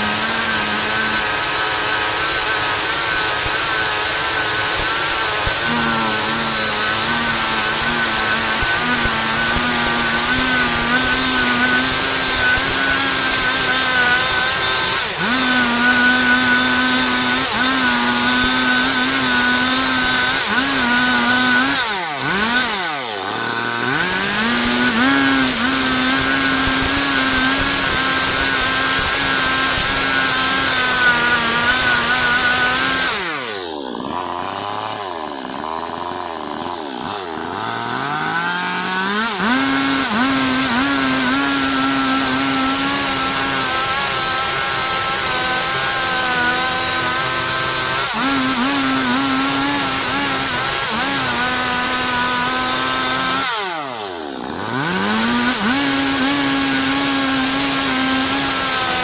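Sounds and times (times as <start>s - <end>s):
chainsaw cutting through log: 0.0s - 59.0s.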